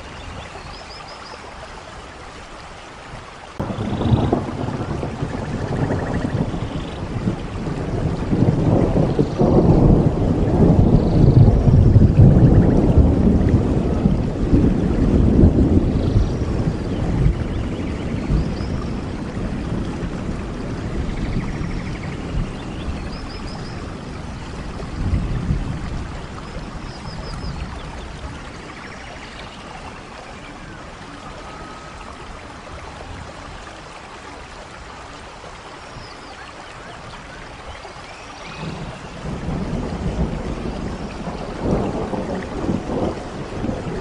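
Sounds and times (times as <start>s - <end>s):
steady rain: 0.0s - 44.0s
thunder rumbling: 3.6s - 33.6s, 38.4s - 44.0s.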